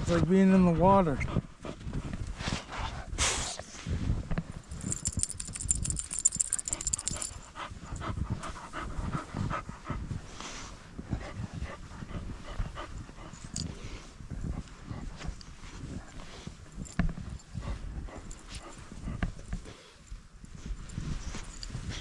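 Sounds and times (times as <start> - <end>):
dog panting: 0.7 - 3.1, 4.8 - 22.0.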